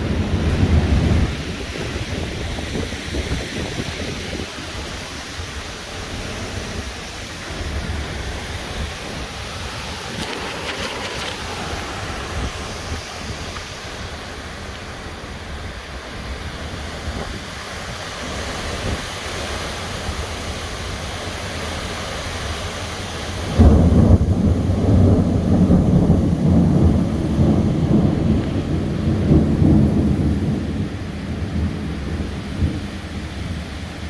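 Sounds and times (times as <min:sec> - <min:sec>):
thunder rumbling: 0:00.0 - 0:17.8, 0:23.3 - 0:34.0
rain: 0:00.0 - 0:34.0
wind: 0:00.0 - 0:34.0.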